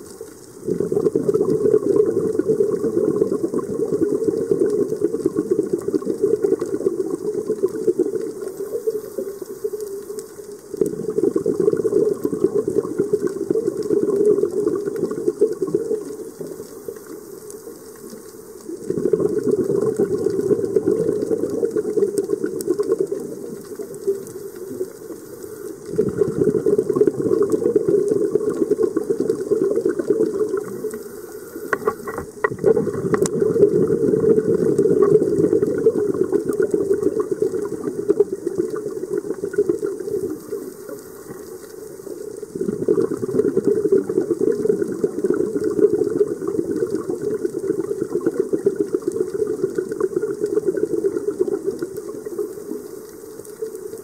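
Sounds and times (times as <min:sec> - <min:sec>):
underwater exhaust bubbles: 0:00.0 - 0:54.0.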